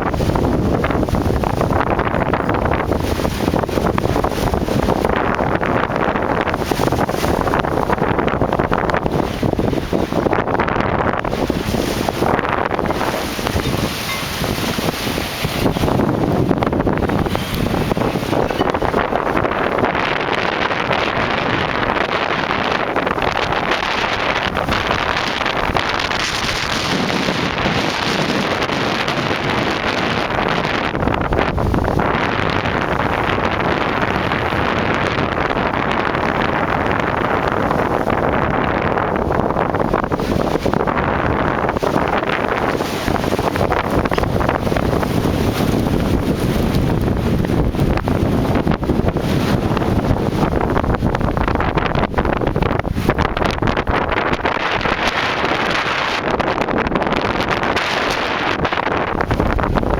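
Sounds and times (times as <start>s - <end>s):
strong wind buffeting microphone: 0.0s - 59.9s.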